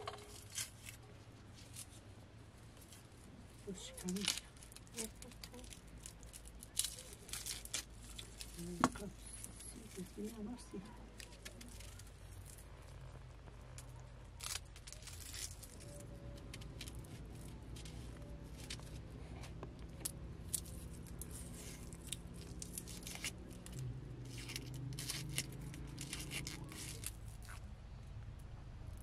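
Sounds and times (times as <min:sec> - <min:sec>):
onion skins crackling and tearing: 0:00.0 - 0:27.7.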